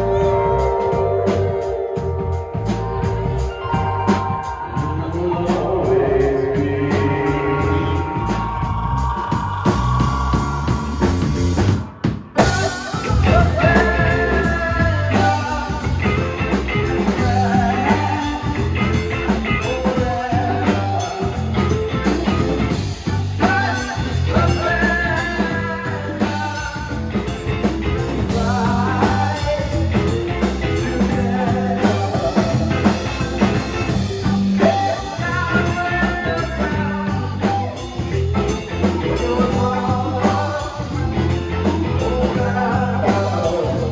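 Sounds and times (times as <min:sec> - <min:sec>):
wavering melody line: 0:00.0 - 0:11.1, 0:12.4 - 0:43.9
bass: 0:00.0 - 0:43.9
drum kit: 0:00.0 - 0:43.9
electric guitar: 0:00.0 - 0:43.9
keyboards: 0:00.0 - 0:43.9.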